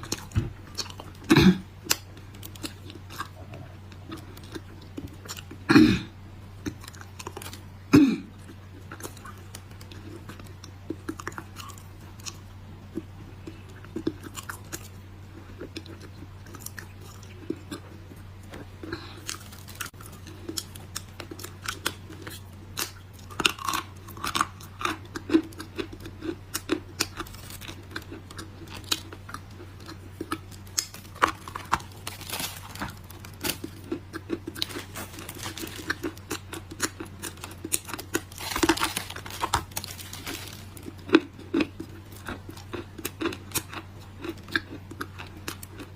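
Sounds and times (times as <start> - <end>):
chewing crunchy clay: 0.0 - 5.7, 6.5 - 45.9
steady low hum: 0.0 - 45.9.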